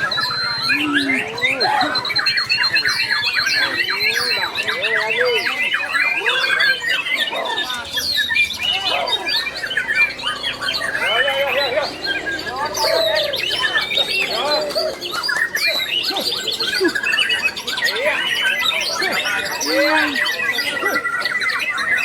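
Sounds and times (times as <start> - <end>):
birds singing: 0.0 - 22.0.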